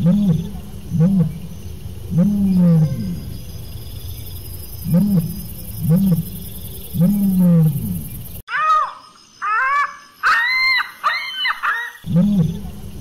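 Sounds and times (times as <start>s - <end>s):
deep animal calls: 0.0s - 10.4s, 11.0s - 13.0s.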